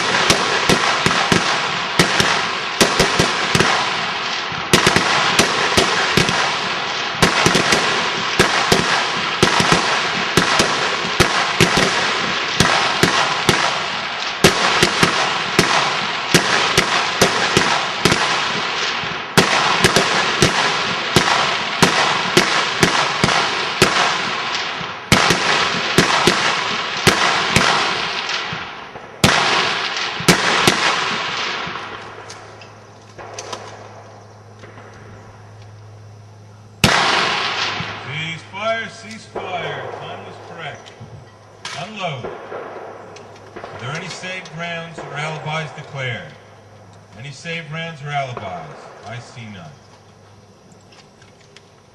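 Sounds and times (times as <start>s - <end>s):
rifle shots with long echo: 0.0s - 50.6s.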